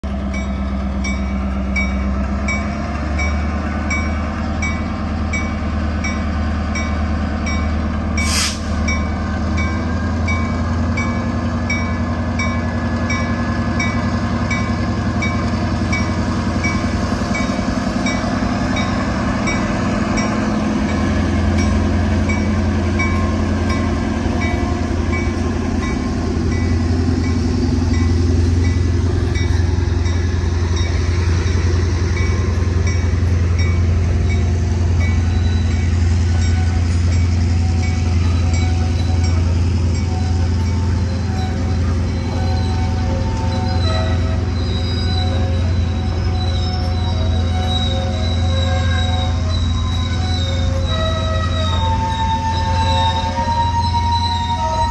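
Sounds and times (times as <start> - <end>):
diesel locomotive rumbling: 0.0 - 54.9
freight cars rolling over bridge: 0.0 - 54.9.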